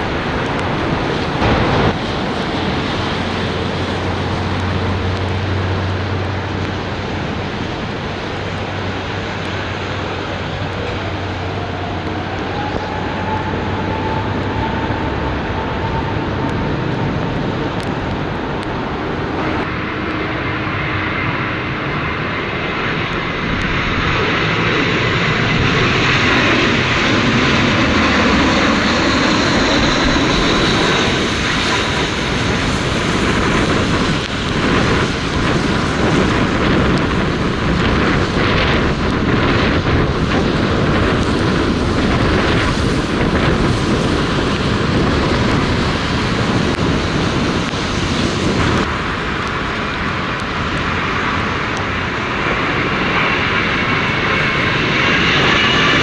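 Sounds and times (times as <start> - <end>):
jet airliner flying past: 0.0 - 56.0.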